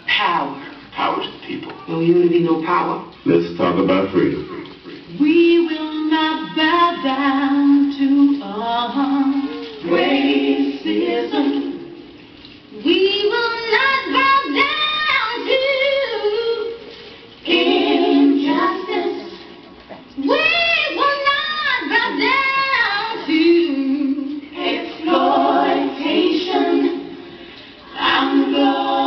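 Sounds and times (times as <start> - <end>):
women singing: 5.1 - 29.0.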